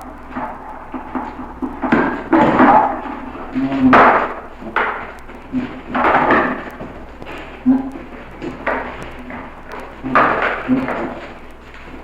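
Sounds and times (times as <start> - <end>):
goat threat call: 0.0 - 12.0
goats clashing horns: 0.0 - 12.0.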